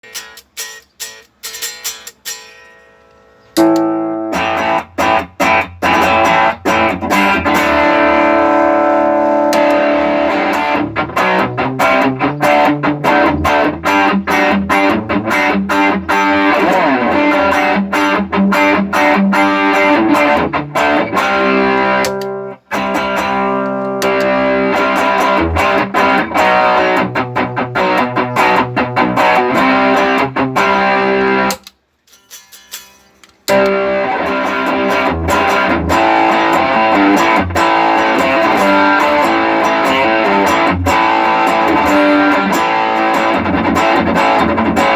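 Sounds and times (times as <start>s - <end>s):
electric guitar riffs and chords: 0.0s - 31.8s, 32.5s - 44.9s.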